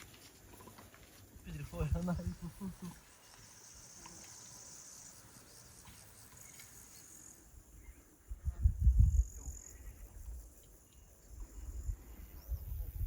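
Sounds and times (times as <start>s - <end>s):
faint outdoor ambience: 0.0s - 13.0s
insects chirping: 0.0s - 13.0s.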